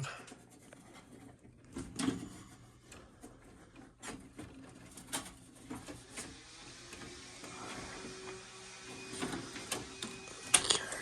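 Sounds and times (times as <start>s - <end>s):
plastic rubbing on copper wire: 0.0s - 9.8s.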